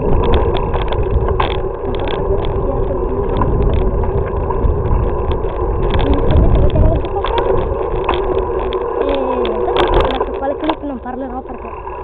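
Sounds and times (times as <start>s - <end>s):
bicycle rolling rumble: 0.0s - 12.0s
wind buffeting microphone: 0.0s - 12.0s.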